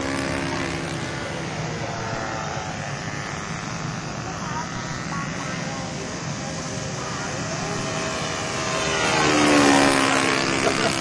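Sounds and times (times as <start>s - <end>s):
model plane motor passing: 0.0s - 11.0s.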